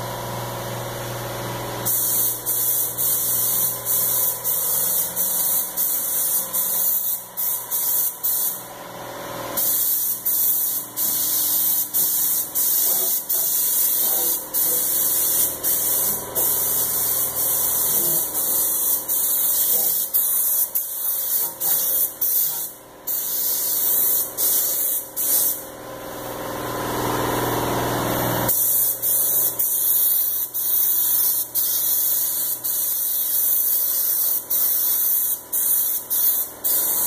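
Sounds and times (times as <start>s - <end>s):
paint spray gun hissing: 1.8s - 8.7s, 9.6s - 25.6s, 28.5s - 37.0s.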